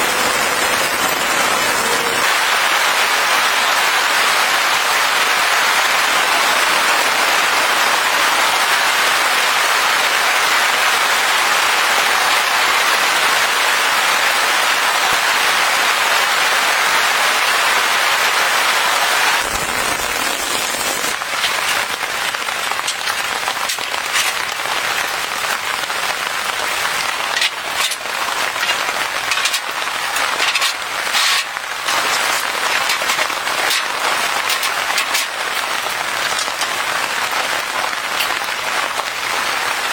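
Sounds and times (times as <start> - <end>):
heavy rainfall hiss: 0.0 - 39.9
raindrops tapping on surface: 0.0 - 39.9.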